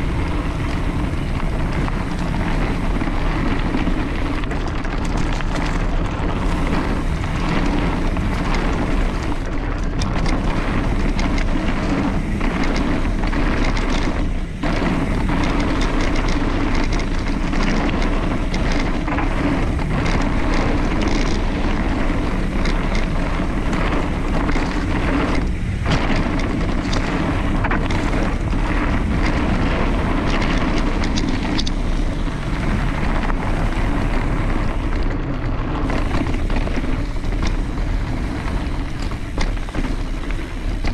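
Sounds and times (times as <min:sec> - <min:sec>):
bike clicks and rattles: 0:00.0 - 0:40.9
bike tyres rolling on dirt: 0:00.0 - 0:40.9
wind noise on microphone: 0:00.0 - 0:40.9.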